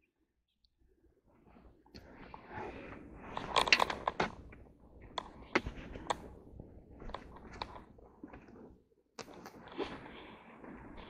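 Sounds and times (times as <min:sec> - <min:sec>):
clothing rustling: 0:01.3 - 0:11.0.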